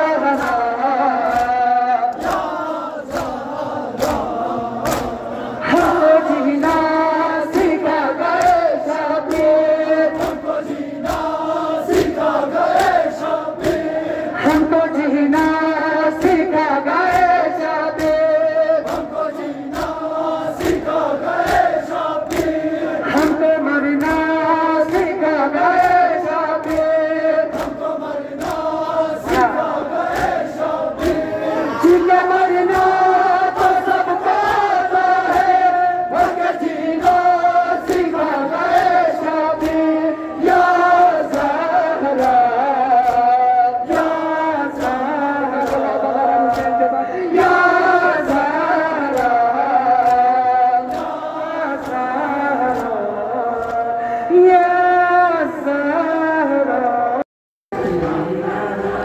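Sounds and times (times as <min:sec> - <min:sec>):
crowd of men chanting a lament: 0:00.0 - 0:57.2, 0:57.8 - 0:59.0
slaps from chest-beating: 0:00.3 - 0:14.7, 0:15.3 - 0:23.4, 0:24.0 - 0:32.0, 0:32.6 - 0:53.9.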